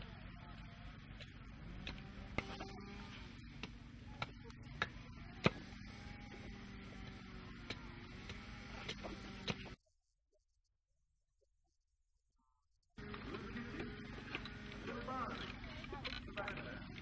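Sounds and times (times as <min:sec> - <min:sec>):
steady low hum: 0:00.0 - 0:09.9, 0:12.4 - 0:17.0.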